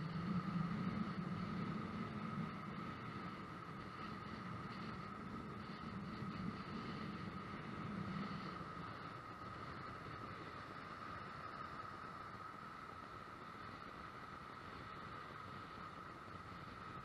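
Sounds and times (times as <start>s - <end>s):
steady high whine: 0.0s - 17.0s
wind: 0.0s - 17.0s.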